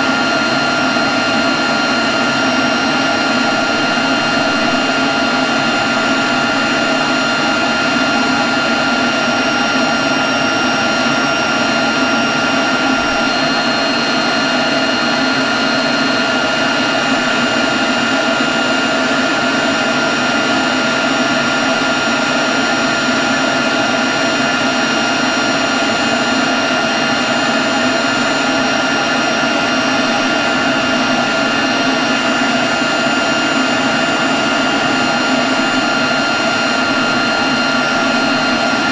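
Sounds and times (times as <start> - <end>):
leaf blower running: 0.0 - 38.9.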